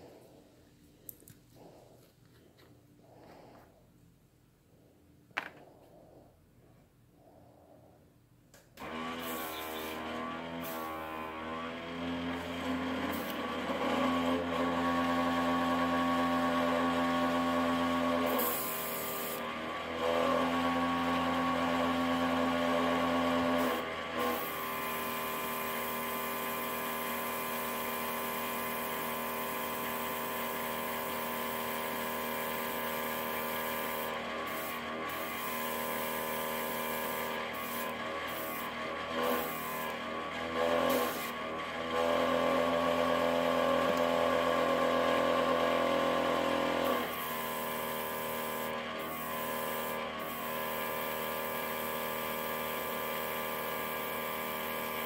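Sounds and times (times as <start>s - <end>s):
airbrush compressor humming: 8.8s - 55.0s.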